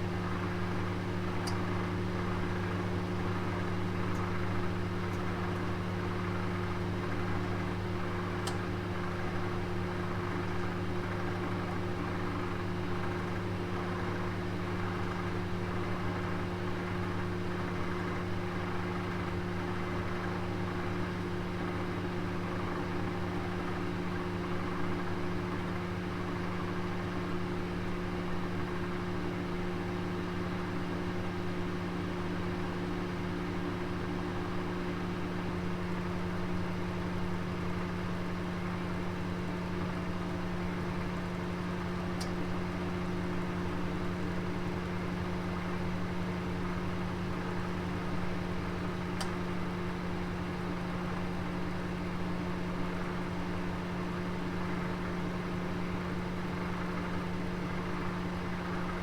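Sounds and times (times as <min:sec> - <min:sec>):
oven motor and fan humming: 0:00.0 - 0:59.0.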